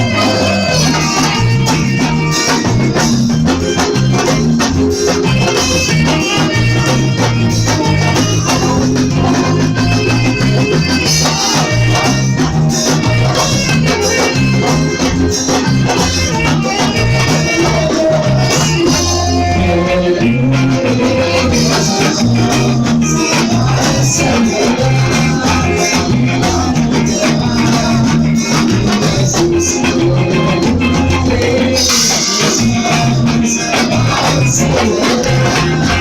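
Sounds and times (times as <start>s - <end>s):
bass line: 0.0s - 36.0s
guitar: 0.0s - 36.0s.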